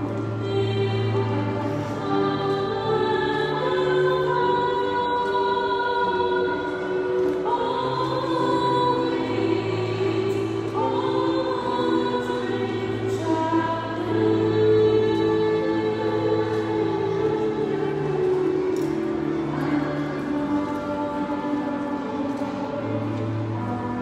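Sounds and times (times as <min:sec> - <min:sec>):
choir singing a hymn: 0:00.0 - 0:24.0.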